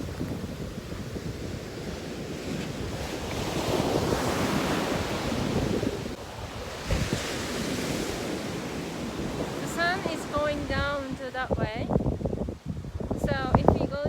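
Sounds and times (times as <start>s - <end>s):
sea waves washing onto beach: 0.0s - 14.0s
wind rumbling on microphone: 0.0s - 14.0s.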